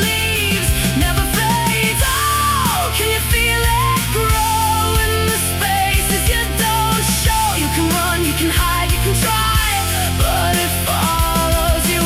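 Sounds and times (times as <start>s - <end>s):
instrumental rock music: 0.0s - 12.0s.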